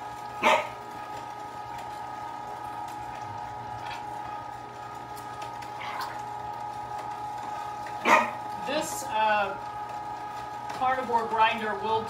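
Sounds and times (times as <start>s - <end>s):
electric meat grinder running: 0.0s - 12.0s.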